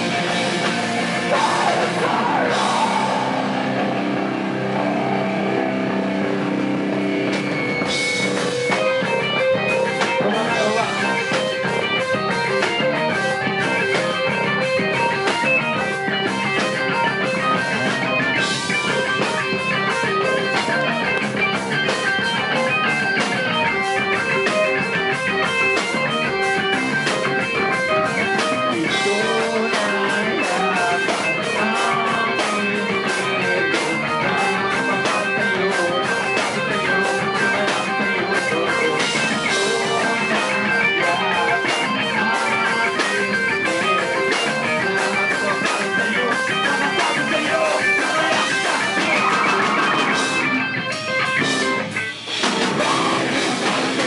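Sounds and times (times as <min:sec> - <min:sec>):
bass guitar: 0:00.0 - 0:54.0
drum kit with cymbals: 0:00.0 - 0:54.0
electric guitars: 0:00.0 - 0:54.0.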